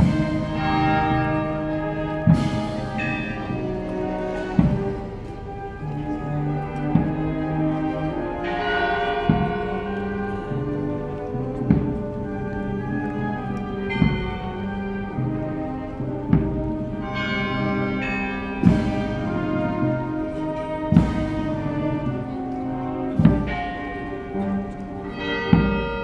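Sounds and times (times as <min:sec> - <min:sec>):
brass band playing funeral march: 0:00.0 - 0:26.0.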